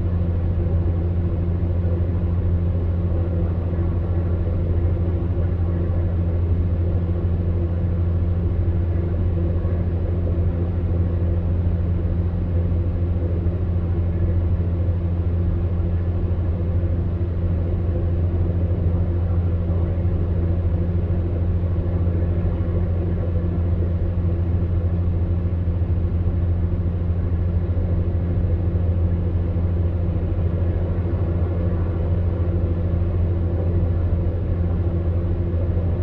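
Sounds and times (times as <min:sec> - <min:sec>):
electric fan heater running: 0:00.0 - 0:36.0.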